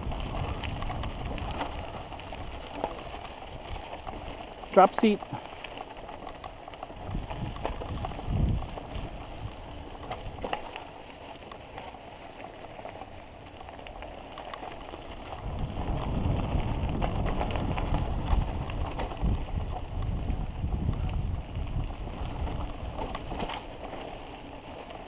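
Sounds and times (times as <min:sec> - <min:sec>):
wind rumble on microphone: 0:00.0 - 0:11.5, 0:12.8 - 0:25.0
bike clicks and rattles: 0:00.0 - 0:25.0
bike tyres crackling on gravel: 0:00.0 - 0:25.0.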